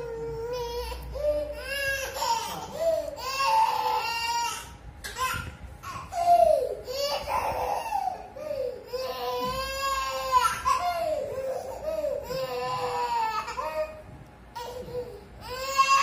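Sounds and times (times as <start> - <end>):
toddler girl crying: 0.0 - 14.0, 14.6 - 16.0.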